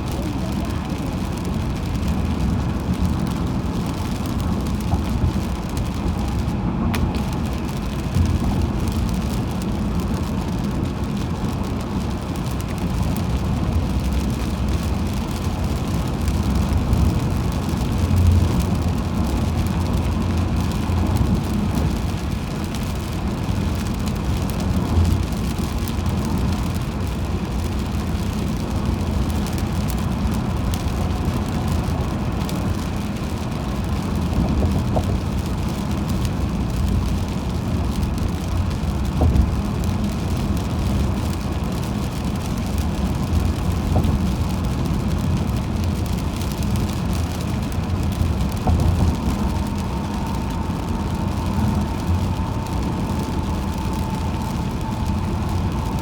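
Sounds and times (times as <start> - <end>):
hiss of tyres and rain: 0.0 - 56.0
tyre and engine rumble: 0.0 - 56.0.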